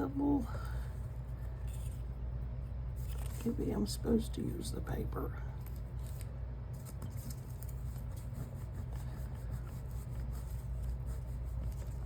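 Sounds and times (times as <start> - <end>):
low background hum: 0.0 - 12.0
faint handling sounds: 0.4 - 3.9, 5.4 - 12.0.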